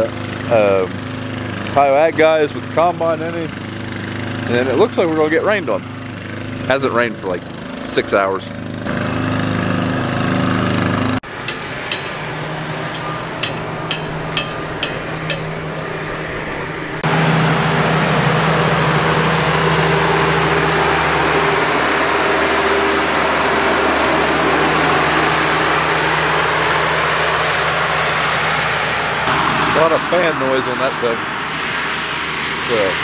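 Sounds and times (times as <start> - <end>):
sprayer engine and fan rushing: 0.0 - 33.0.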